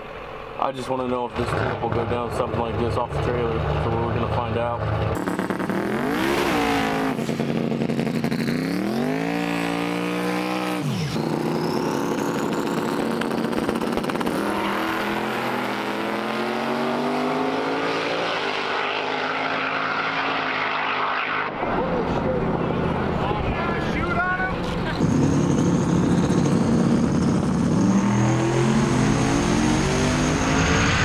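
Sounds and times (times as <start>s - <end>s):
car engine revving and accelerating: 2.9s - 24.0s, 24.6s - 31.0s.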